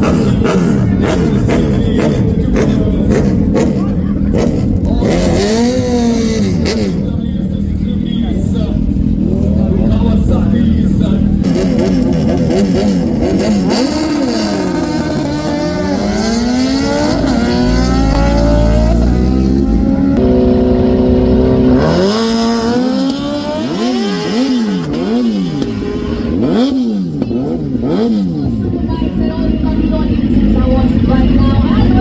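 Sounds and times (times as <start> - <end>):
engines revving: 0.0 - 32.0.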